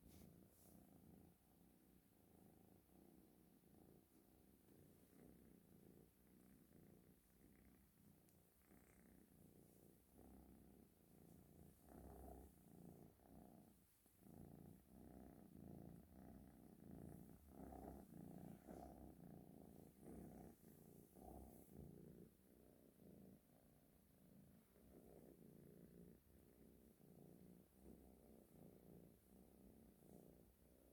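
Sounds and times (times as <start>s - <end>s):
cat purring softly: 0.0s - 30.9s.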